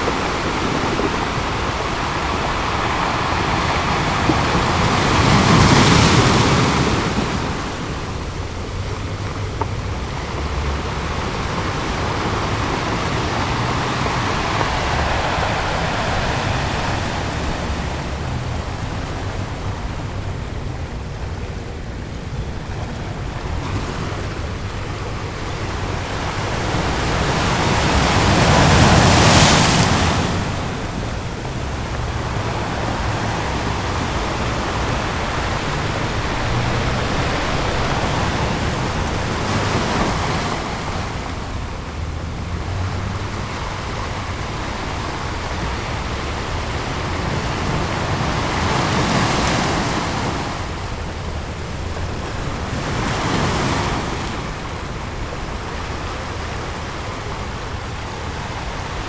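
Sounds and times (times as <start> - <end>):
ocean waves washing: 0.0 - 59.0
waves breaking: 0.0 - 59.0.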